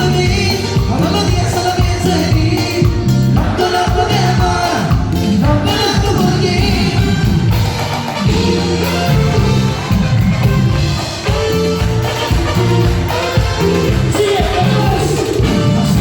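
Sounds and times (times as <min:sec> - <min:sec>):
band music with singing: 0:00.0 - 0:16.0.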